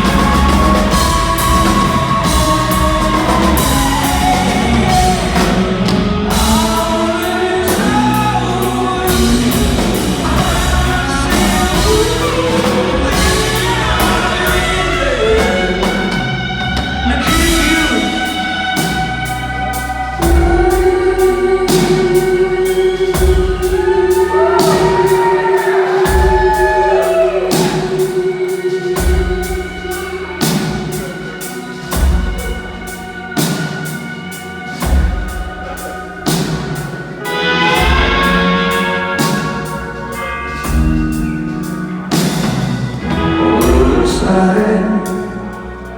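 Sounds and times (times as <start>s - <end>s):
person singing: 0.0s - 45.9s
rock band playing: 0.0s - 45.9s.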